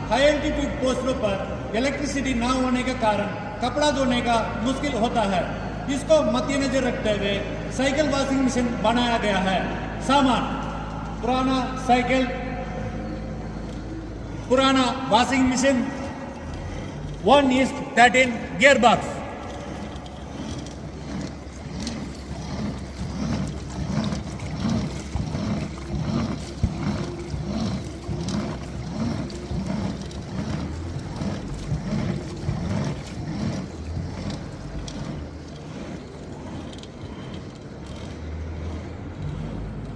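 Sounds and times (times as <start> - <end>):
water and clothes churning in drum: 0.0 - 39.9.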